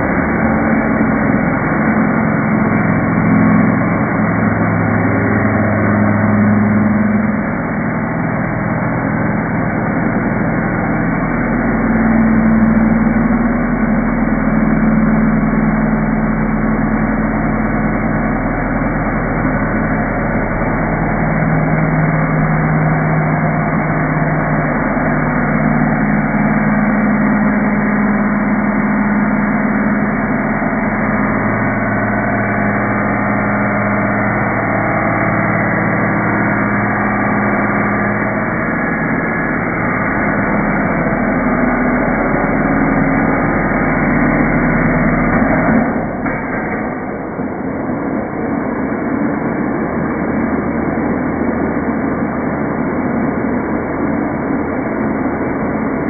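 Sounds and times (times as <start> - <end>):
motor humming with shifting tones: 0.0 - 56.0.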